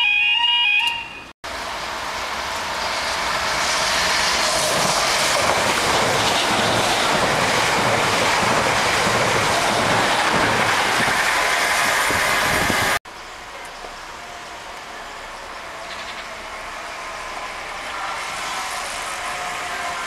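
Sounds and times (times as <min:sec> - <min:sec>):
train wheels rushing on rails: 0:01.5 - 0:13.0, 0:13.8 - 0:20.0.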